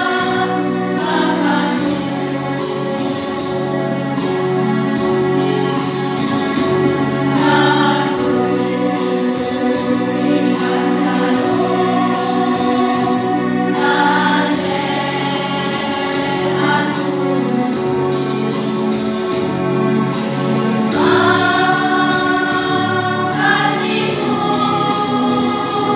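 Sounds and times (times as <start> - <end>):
children's choir singing: 0.0 - 3.7, 6.2 - 17.8, 20.2 - 25.9
instrumental accompaniment: 0.0 - 25.9.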